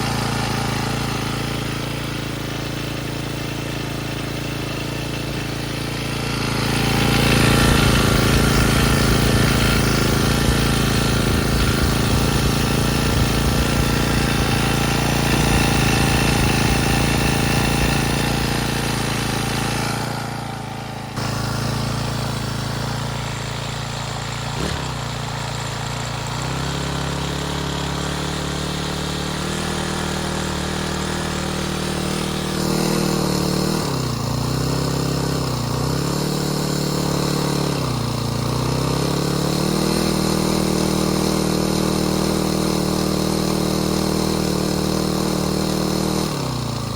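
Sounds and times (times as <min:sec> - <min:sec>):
string trimmer engine running: 0:00.0 - 0:46.9.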